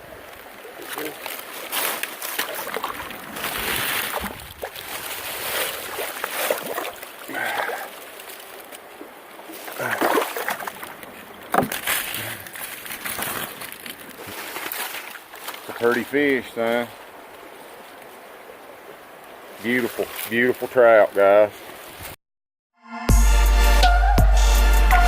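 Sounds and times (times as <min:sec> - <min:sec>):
creek water splashing: 0:00.0 - 0:22.2.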